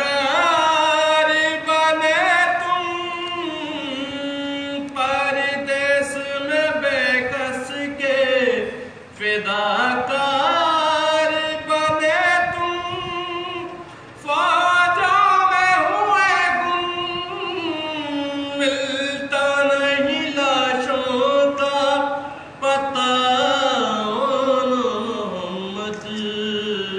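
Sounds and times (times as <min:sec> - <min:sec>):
man chanting unaccompanied: 0:00.0 - 0:26.9.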